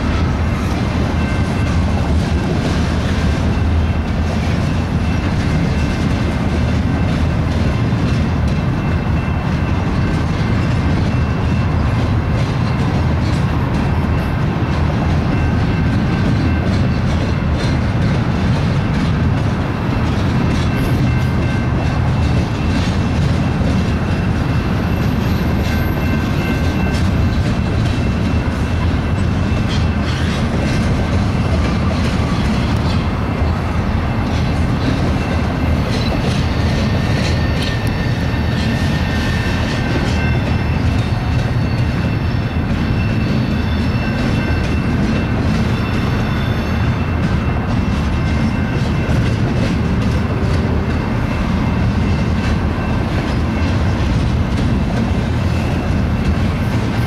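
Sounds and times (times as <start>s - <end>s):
high ringing from wheels: 0.0s - 57.0s
train wheels rumbling on rail: 0.0s - 57.0s
wheels clicking over rail joints: 0.2s - 57.0s.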